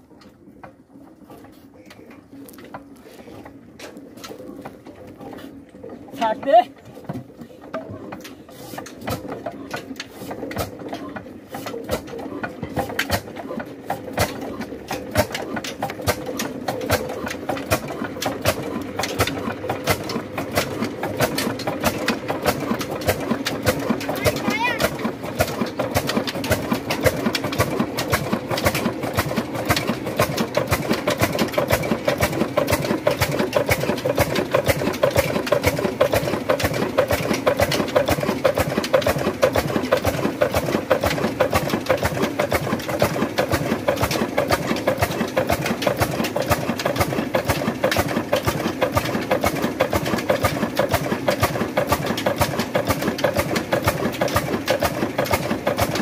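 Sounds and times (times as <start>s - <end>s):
steady machine hum: 0.0s - 56.0s
machine clattering: 4.2s - 56.0s.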